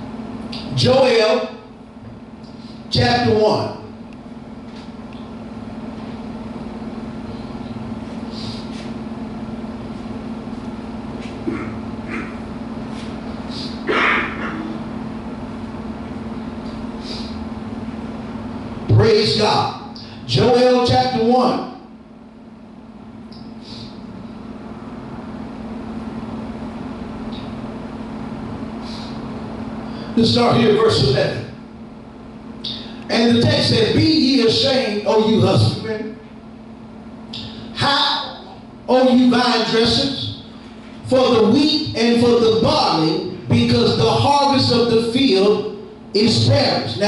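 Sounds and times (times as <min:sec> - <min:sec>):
room noise: 0:00.0 - 0:47.0
steady low hum: 0:00.0 - 0:47.0.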